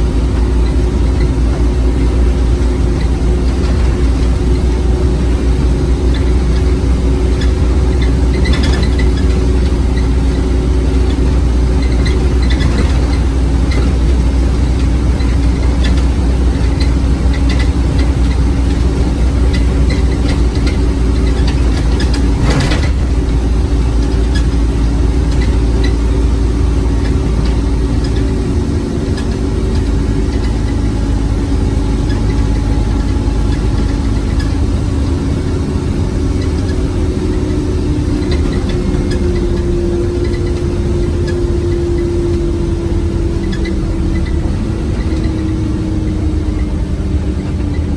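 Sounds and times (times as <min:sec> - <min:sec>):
bus diesel engine drone: 0:00.0 - 0:47.9.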